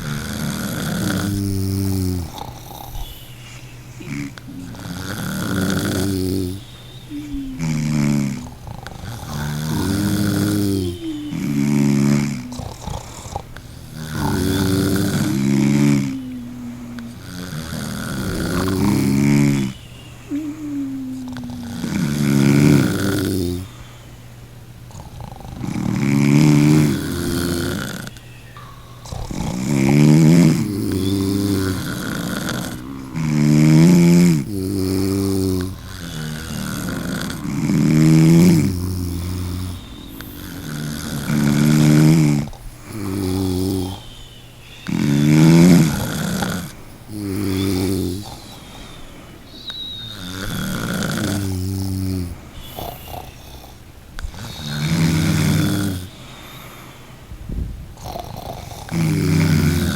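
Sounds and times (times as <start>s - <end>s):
person snoring: 0.0s - 24.0s, 24.9s - 28.2s, 28.9s - 44.2s, 44.8s - 56.8s, 58.0s - 59.9s
quiet breath: 0.0s - 59.9s.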